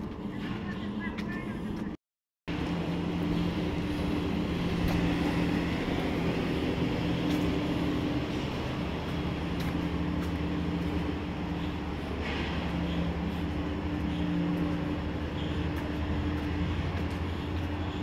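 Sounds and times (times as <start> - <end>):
machine droning: 0.0 - 18.0.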